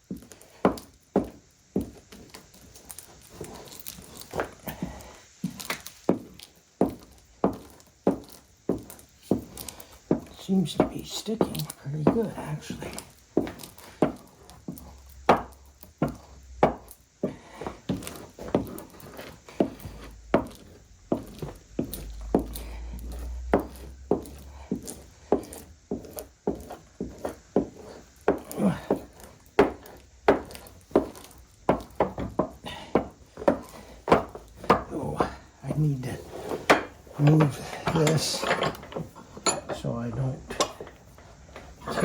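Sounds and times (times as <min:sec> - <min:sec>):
hammer knocking and scraping wood: 0:03.3 - 0:42.0.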